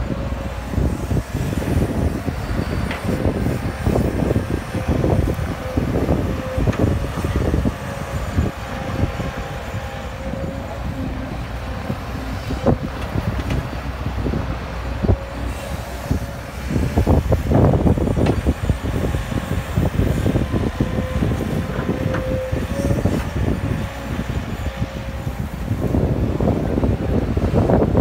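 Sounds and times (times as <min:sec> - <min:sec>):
excavator diesel engine: 0:00.0 - 0:28.0.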